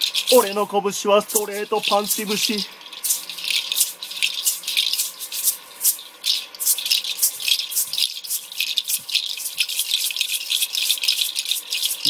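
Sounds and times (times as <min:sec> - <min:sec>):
hand shaker shaking: 0:00.0 - 0:12.0.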